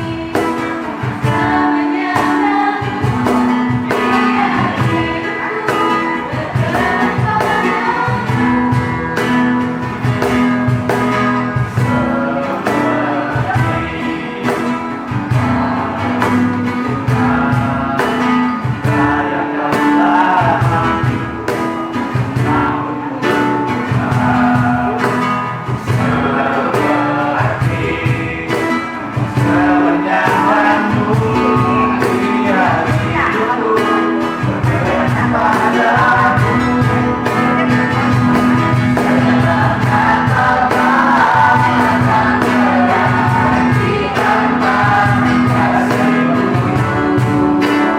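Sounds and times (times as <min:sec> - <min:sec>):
choir singing with band: 0:00.0 - 0:47.9.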